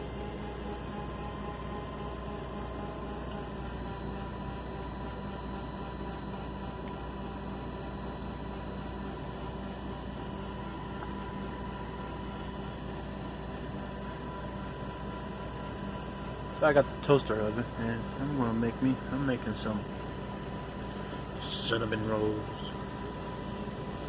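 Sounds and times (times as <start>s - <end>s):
machine hum in truck cab: 0.0s - 24.0s.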